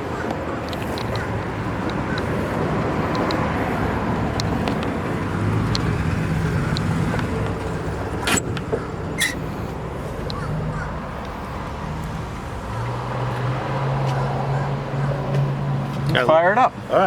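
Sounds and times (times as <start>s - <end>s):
low vehicle rumble: 0.0s - 16.3s.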